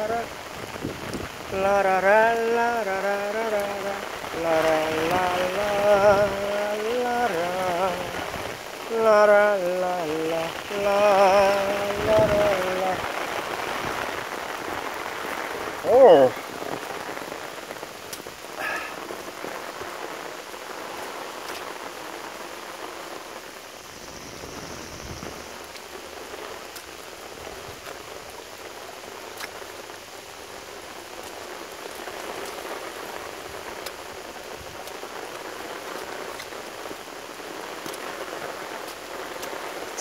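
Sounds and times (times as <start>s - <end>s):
steady rain hiss: 0.0s - 40.0s.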